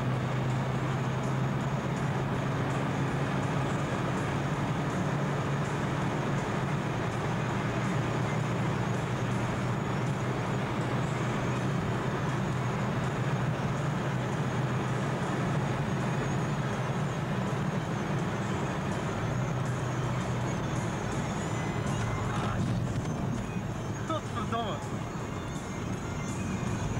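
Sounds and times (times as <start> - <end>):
car engine and road noise: 0.0 - 26.9.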